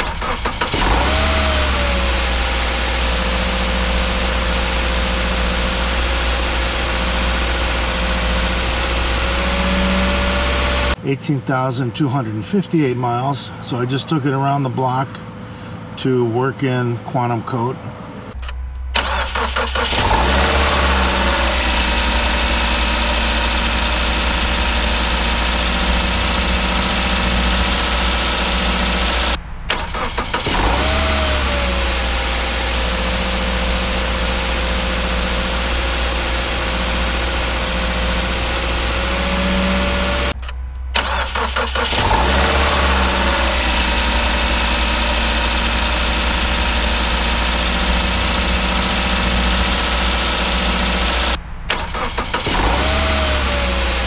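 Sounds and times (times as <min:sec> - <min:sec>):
car engine cranking and idling: 0:00.0 - 0:54.0.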